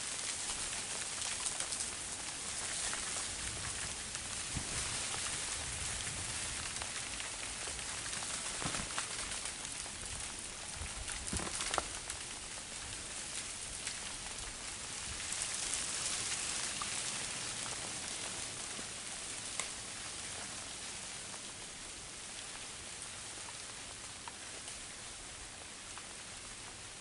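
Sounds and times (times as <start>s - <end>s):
freezing rain on leaves and branches: 0.0s - 27.0s.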